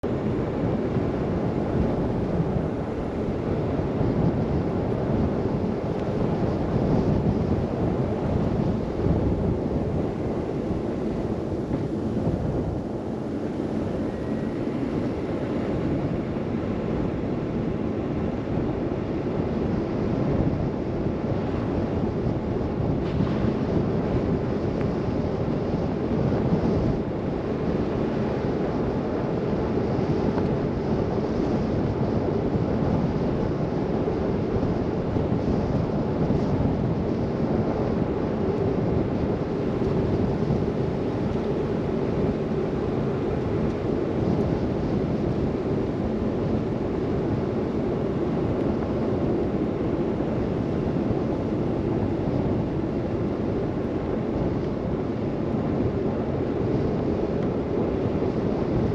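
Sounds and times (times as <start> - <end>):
blizzard wind buffeting microphone: 0.0 - 58.9.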